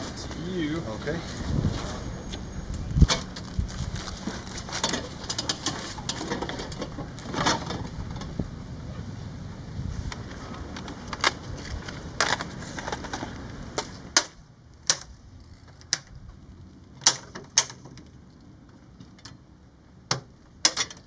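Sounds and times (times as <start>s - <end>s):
light background noise: 0.0s - 21.0s.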